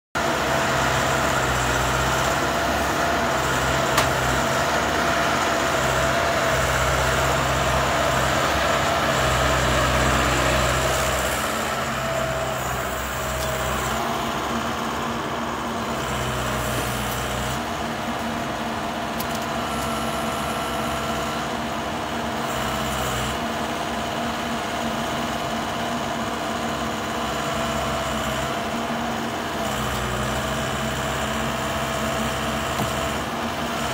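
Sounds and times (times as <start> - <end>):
diesel engine whining under load: 0.2 - 33.9.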